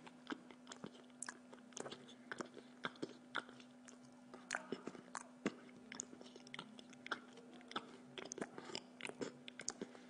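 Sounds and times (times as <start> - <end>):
person chewing: 0.0 - 10.0
steady hum: 0.0 - 10.0.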